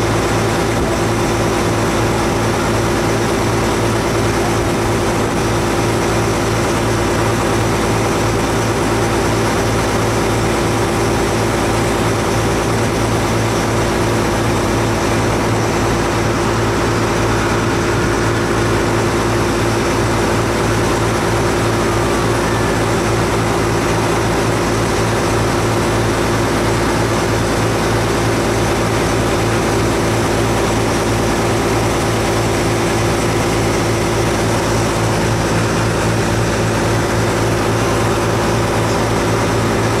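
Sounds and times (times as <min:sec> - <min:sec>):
ferry engine droning: 0:00.0 - 0:40.0.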